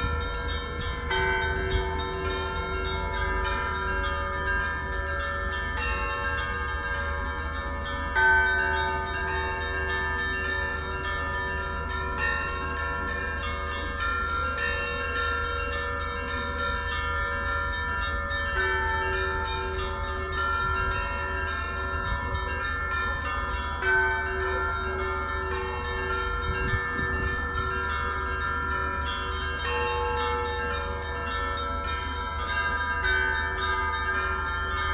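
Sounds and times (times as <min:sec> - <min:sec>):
heavy bell striking: 0:00.0 - 0:34.9
small bells chiming: 0:00.0 - 0:34.9.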